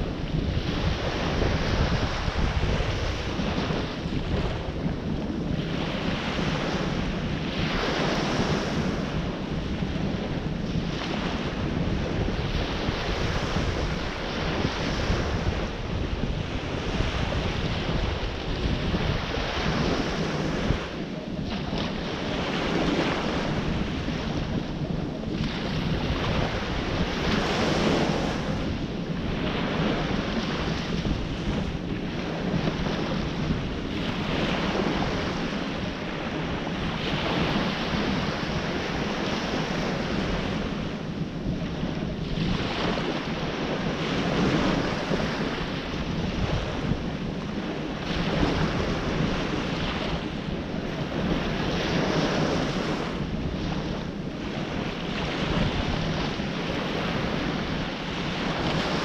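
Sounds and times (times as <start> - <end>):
ocean waves breaking on shore: 0.0 - 59.0
wind rumble on microphone: 0.0 - 59.0.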